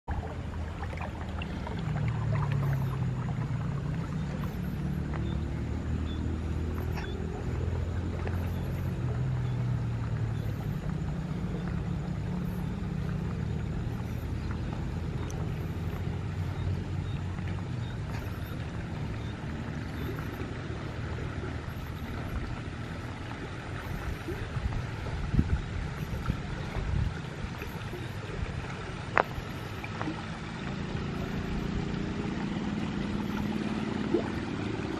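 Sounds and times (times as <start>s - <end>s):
low engine-like hum: 0.0s - 34.9s
water rushing in canal: 0.0s - 34.9s
wind rumble on microphone: 0.1s - 34.9s.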